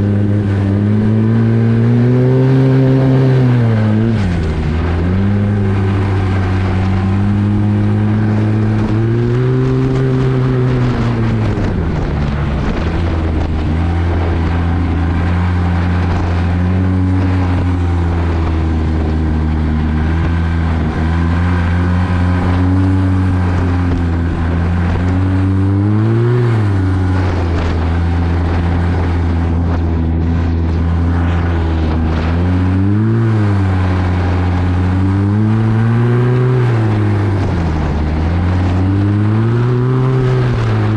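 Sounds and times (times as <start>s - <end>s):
rushing wind and track hiss: 0.0s - 40.9s
snowmobile engine at speed: 0.0s - 40.9s.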